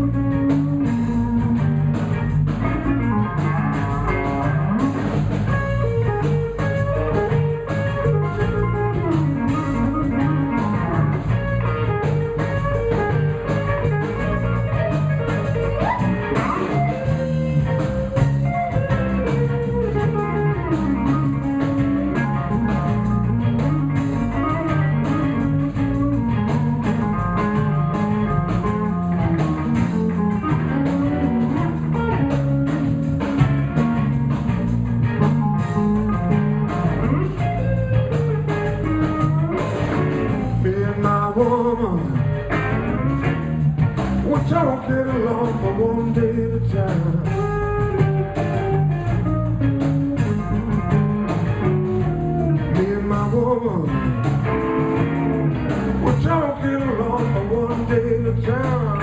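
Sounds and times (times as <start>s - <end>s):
bass guitar: 0.0s - 59.0s
drum kit beat: 0.0s - 59.0s
electric guitar: 0.0s - 59.0s.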